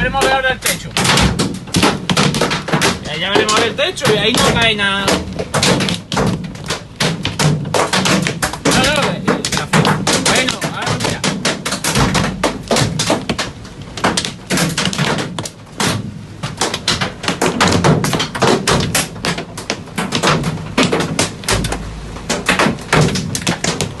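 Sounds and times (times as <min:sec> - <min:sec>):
hailstones pelting metal roof: 0:00.0 - 0:24.0.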